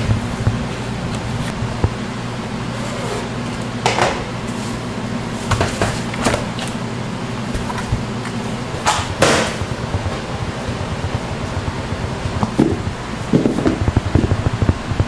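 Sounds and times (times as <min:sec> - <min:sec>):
low hum of kitchen machinery: 0:00.0 - 0:15.0.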